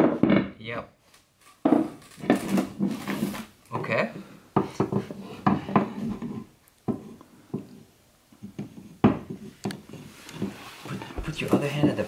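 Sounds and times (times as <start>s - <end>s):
wooden parts knocking and scraping: 0.0s - 0.6s, 1.5s - 12.0s.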